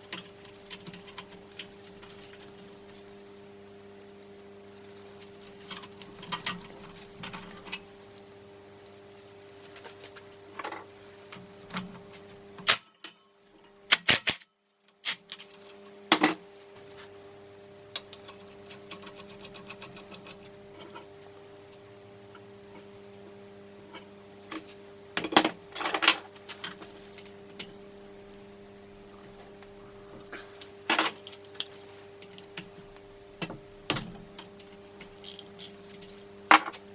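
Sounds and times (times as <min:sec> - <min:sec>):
steady electrical hum: 0:00.0 - 0:36.9.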